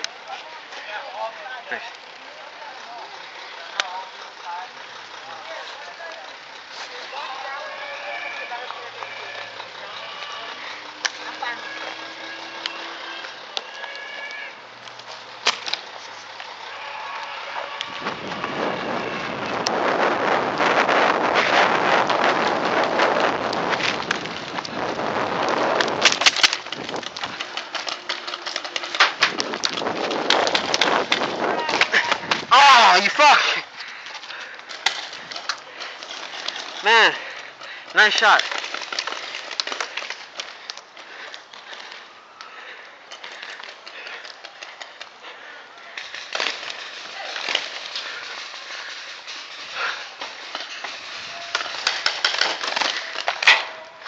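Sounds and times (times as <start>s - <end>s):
sharp cracks: 8.4s - 54.0s.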